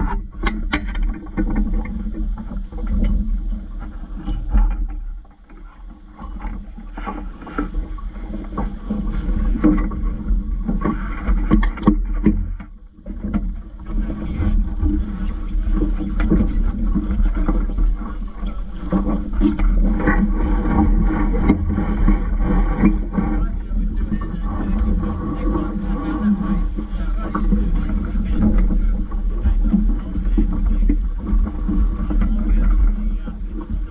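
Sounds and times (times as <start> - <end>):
water against a hull: 0.0 - 33.9
wind rumble on microphone: 0.0 - 33.9.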